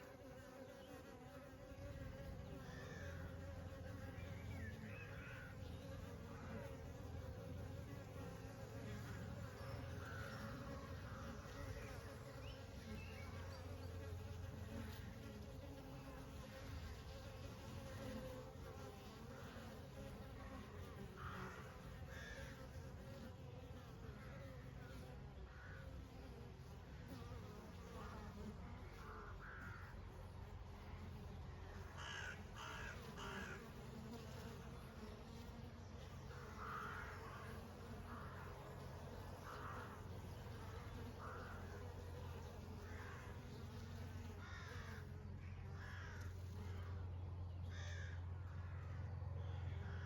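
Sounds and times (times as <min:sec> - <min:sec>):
bees buzzing: 0:00.0 - 0:48.4.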